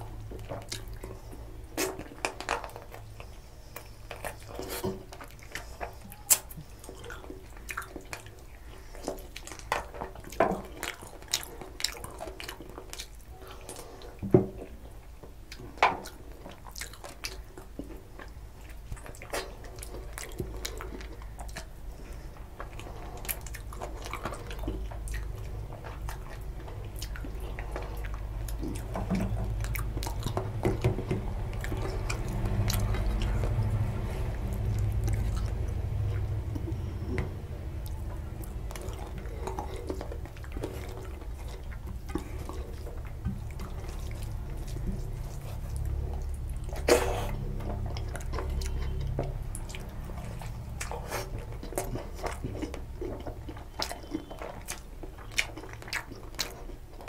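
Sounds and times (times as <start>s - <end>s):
low steady hum: 0.0s - 57.0s
wet chewing and mouth sounds: 0.0s - 57.0s.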